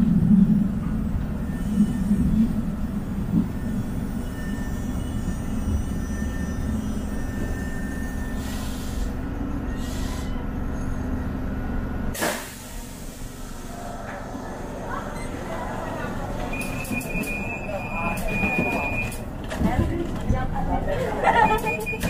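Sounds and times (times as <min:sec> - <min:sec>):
light rail train rumbling: 0:00.0 - 0:22.0.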